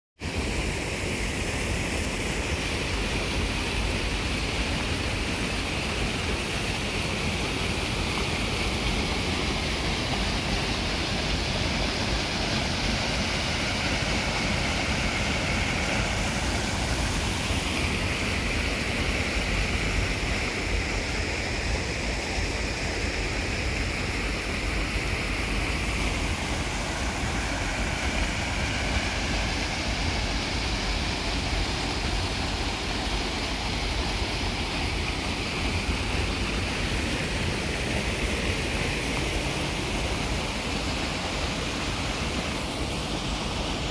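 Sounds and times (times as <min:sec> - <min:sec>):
water rushing over a weir: 0:00.2 - 0:43.9.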